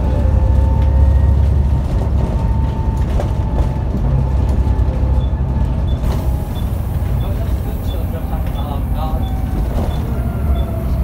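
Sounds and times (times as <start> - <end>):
bus engine low rumble: 0.0 - 11.0.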